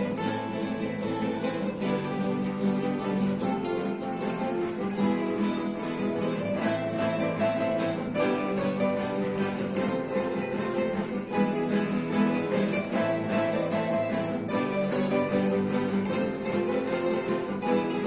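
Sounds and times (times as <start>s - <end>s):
acoustic guitars playing dance music: 0.0s - 18.0s.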